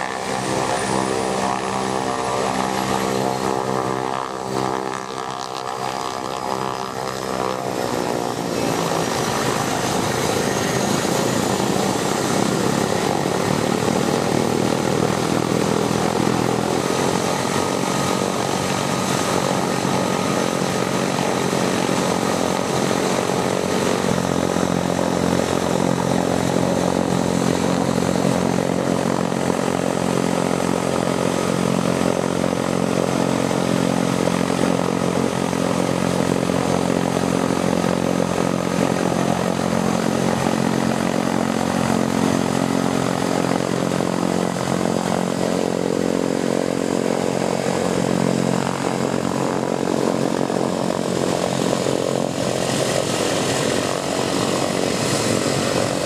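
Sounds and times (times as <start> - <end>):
turboprop engines droning: 0.0 - 56.0.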